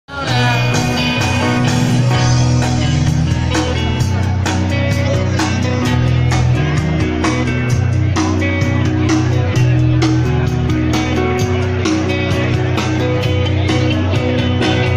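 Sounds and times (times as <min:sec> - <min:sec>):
guitar: 0:00.0 - 0:14.9
held bass notes: 0:00.1 - 0:14.9
steady drum beat: 0:00.2 - 0:14.9.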